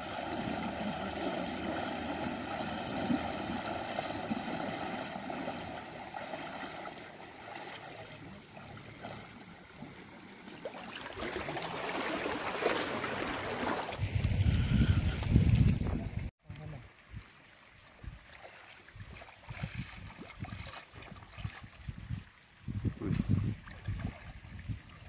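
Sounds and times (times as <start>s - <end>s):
legs splashing in shallow water: 0.0s - 16.0s, 17.6s - 22.4s, 23.5s - 25.0s
rushing water: 0.0s - 16.3s, 16.9s - 25.0s.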